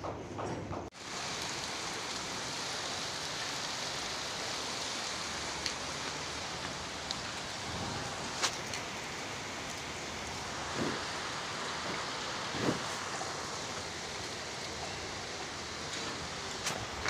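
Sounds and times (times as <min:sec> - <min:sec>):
heavy rain hissing: 0:00.9 - 0:17.0.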